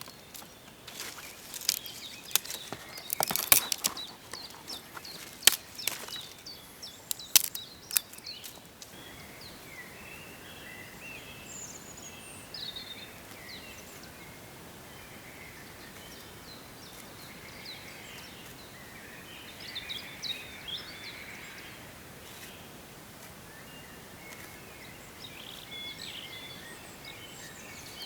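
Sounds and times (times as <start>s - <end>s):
small birds singing and chirping: 0.0s - 22.7s, 23.5s - 28.0s.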